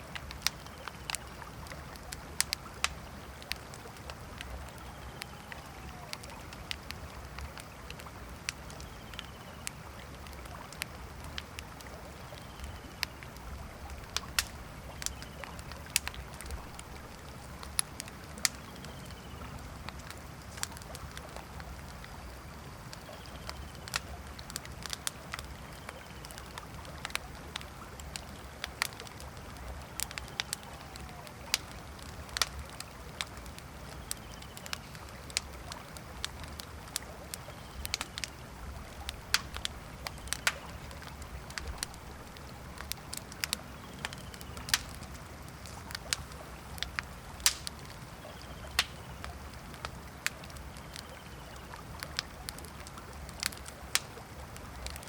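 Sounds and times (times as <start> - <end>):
river water flowing: 0.0 - 23.0, 23.7 - 55.0
campfire crackling and popping: 0.0 - 55.0.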